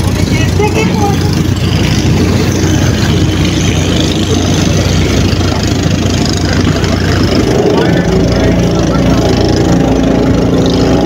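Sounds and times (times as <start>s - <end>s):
ship engine hum: 0.0s - 11.0s.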